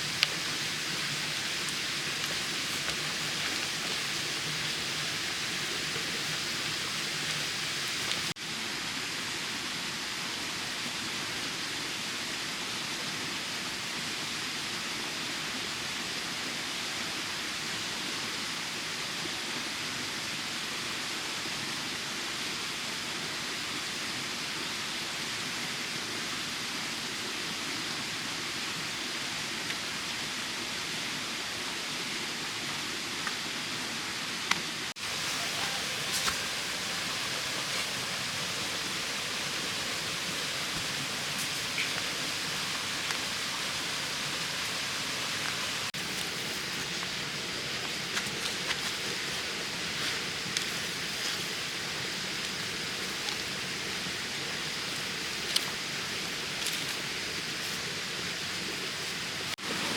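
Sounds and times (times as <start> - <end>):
rushing water hiss: 0.0 - 59.9.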